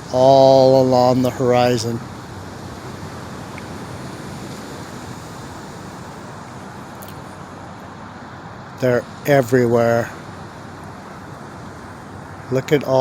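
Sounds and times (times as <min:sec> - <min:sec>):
steady outdoor rushing noise: 0:00.0 - 0:13.0.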